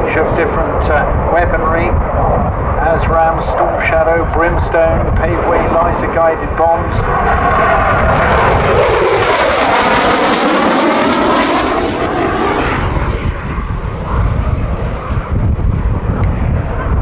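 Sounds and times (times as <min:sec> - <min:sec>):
jet engines roaring past: 0:00.0 - 0:17.0.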